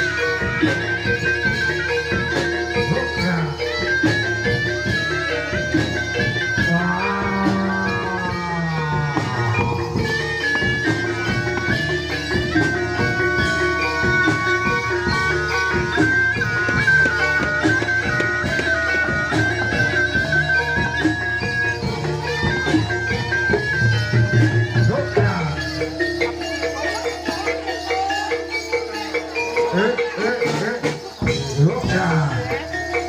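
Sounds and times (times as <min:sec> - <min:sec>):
drum strokes: 0:00.0 - 0:28.1
reedy shawm melody: 0:00.0 - 0:33.0.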